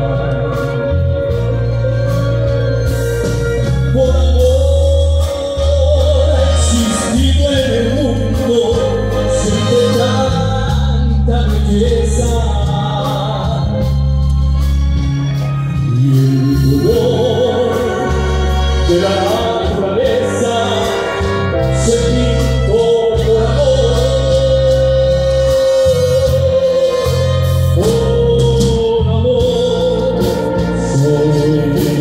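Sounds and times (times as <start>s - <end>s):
person singing: 0.0s - 14.4s, 15.7s - 32.0s
held low bass notes: 0.0s - 32.0s
orchestral music: 0.0s - 32.0s.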